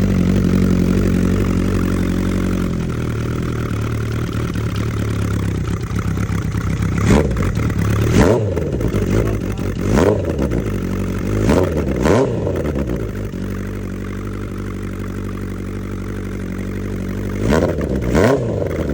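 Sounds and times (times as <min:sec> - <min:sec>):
motorcycle engine idling: 0:00.0 - 0:18.9
motorcycle engine revving: 0:00.0 - 0:18.9.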